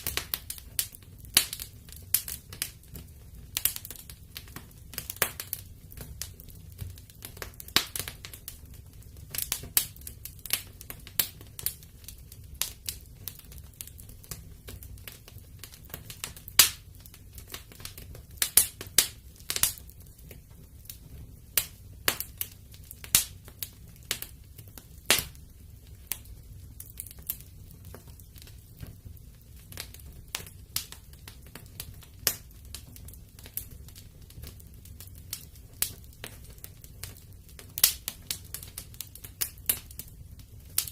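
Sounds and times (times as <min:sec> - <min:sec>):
fire crackling and popping: 0:00.0 - 0:40.9
low rumble of flames: 0:00.0 - 0:40.9.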